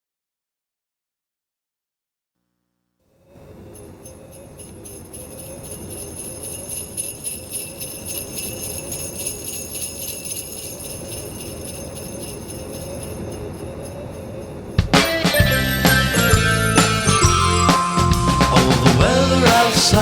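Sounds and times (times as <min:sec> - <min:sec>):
sleigh bells shaken: 0:03.6 - 0:20.0.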